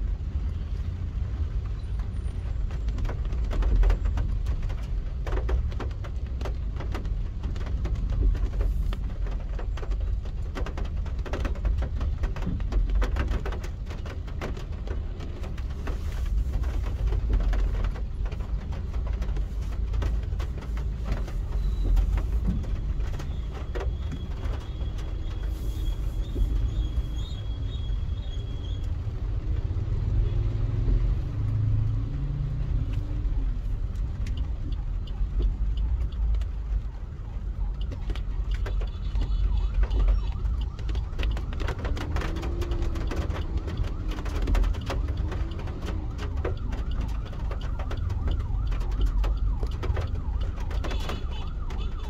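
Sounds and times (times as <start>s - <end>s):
low road rumble: 0.0s - 52.0s
raindrops ticking on car: 0.0s - 52.0s.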